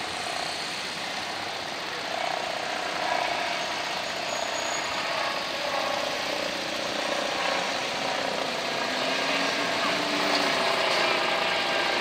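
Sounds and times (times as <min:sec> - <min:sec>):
vehicle engines: 0:00.0 - 0:12.0.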